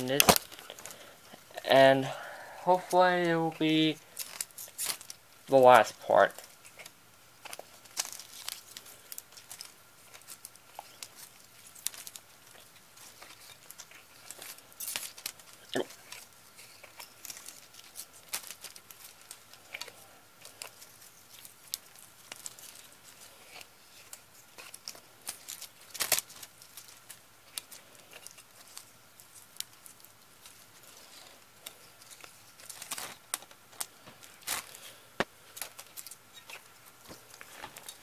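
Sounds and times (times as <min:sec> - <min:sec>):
faint steady high hum: 0:00.0 - 0:38.0.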